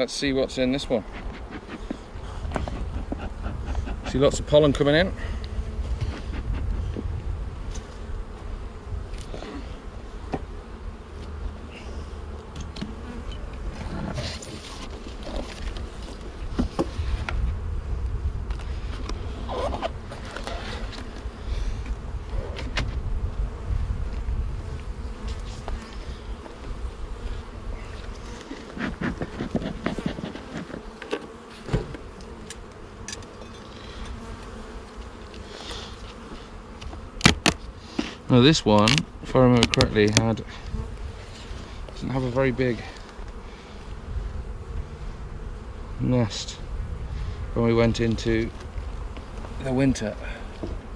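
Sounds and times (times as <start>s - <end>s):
honeybees buzzing: 0.0s - 50.9s.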